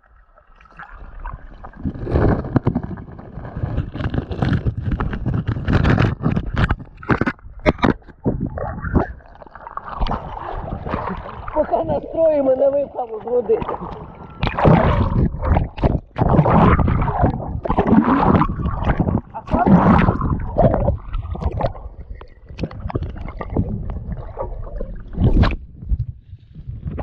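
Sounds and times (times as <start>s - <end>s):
water splashing and gurgling: 0.0s - 27.0s.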